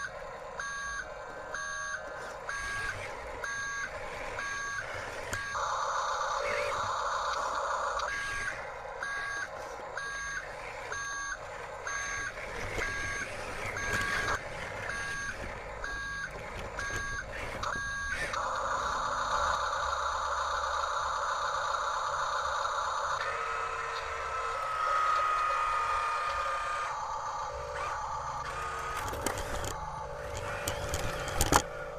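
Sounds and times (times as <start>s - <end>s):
electric motor whine: 0.0s - 31.9s
reversing beeper: 0.6s - 31.5s.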